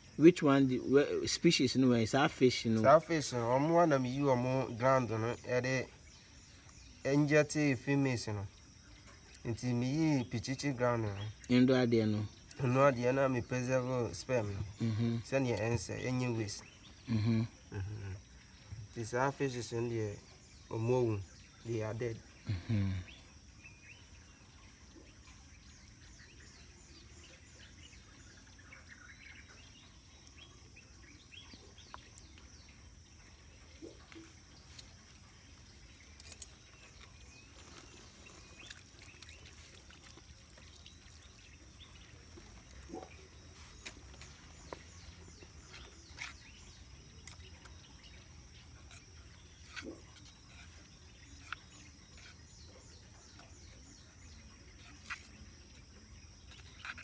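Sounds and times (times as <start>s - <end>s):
insects shrilling: 0.0s - 57.0s.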